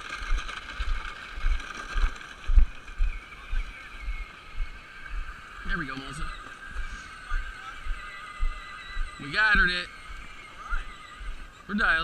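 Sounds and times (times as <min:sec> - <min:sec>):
high-pitched drone: 0:00.0 - 0:12.0.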